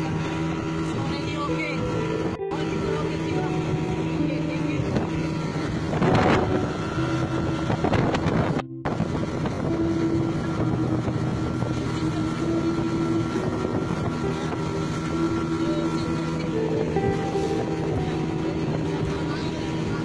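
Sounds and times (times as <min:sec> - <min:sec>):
motorboat engine running: 0:00.0 - 0:20.0
wind on microphone: 0:00.0 - 0:20.0.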